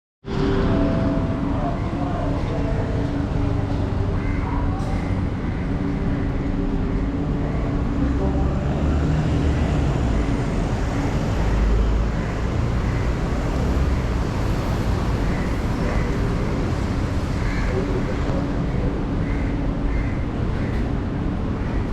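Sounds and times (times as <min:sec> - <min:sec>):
train rumbling: 0:00.3 - 0:21.9.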